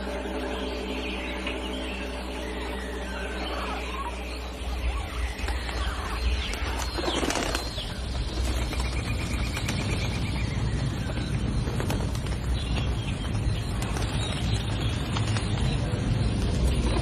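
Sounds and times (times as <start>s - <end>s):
birds chirping and calling: 0.0s - 17.0s
steady low rumble: 0.0s - 17.0s.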